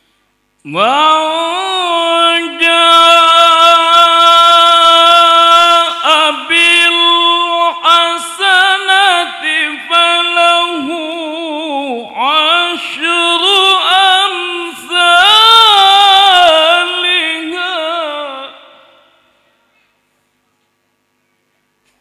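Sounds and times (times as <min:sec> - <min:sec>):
man reciting in melodic chant: 0:00.6 - 0:19.4.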